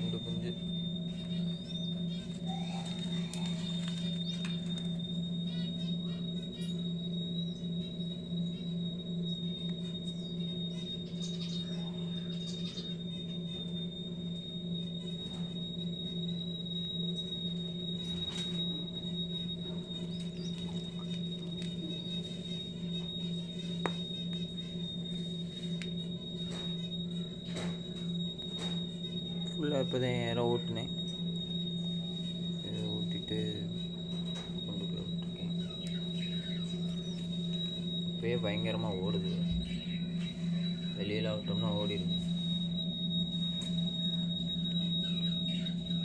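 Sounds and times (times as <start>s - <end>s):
high-pitched whine: 0.0s - 46.0s
steady low hum: 0.0s - 46.0s.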